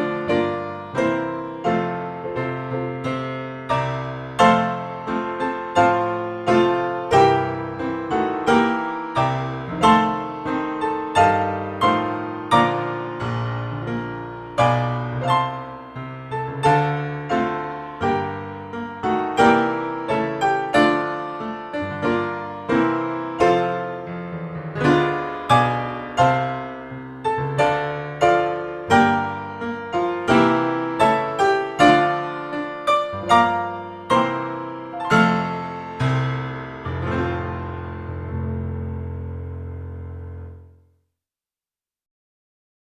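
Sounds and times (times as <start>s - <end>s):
piano music: 0.0s - 40.8s.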